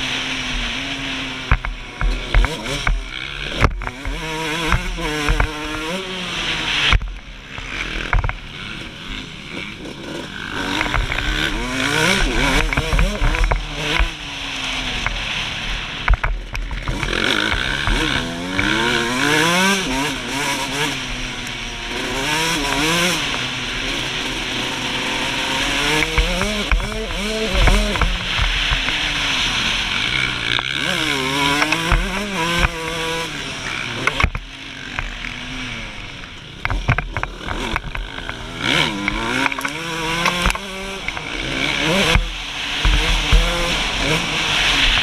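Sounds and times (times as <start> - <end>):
two-stroke motocross engine revving: 0.0 - 45.0.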